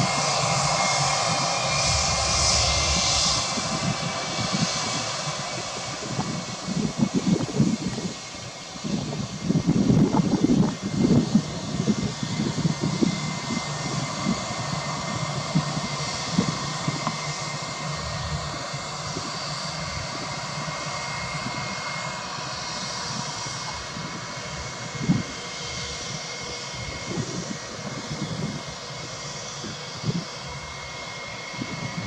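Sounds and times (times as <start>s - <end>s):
jet engines whining: 0.0s - 32.0s.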